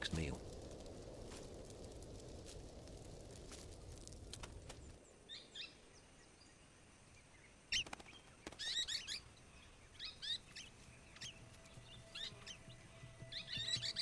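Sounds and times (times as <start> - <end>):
faint crackles: 0.0 - 14.0.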